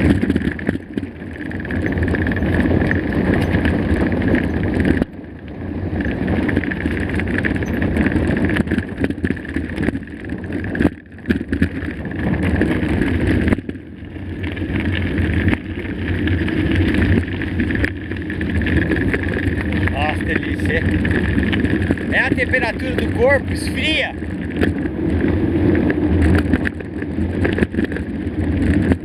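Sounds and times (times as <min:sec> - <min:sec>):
bike tyres rumbling on dirt: 0:00.0 - 0:29.0.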